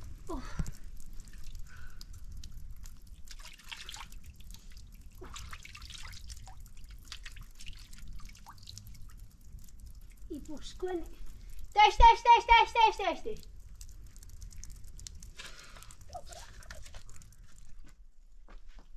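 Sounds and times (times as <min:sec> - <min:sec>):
water dripping and trickling: 0:00.0 - 0:18.1.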